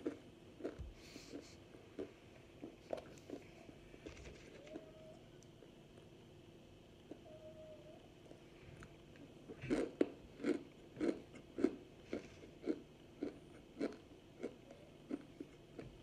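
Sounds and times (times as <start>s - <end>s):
crunching and chewing: 0.0s - 6.2s, 8.2s - 16.0s.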